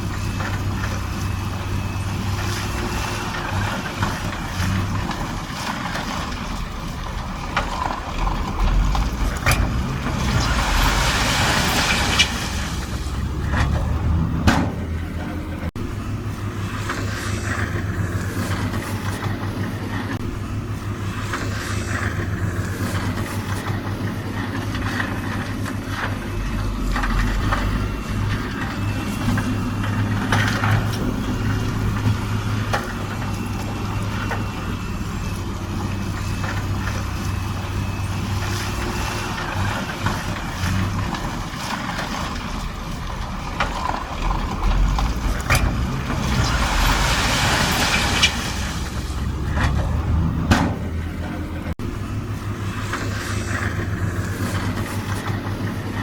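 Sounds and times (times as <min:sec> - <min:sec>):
diesel engine drone: 0:00.0 - 0:56.0
rushing noise: 0:00.9 - 0:19.1, 0:19.8 - 0:55.2.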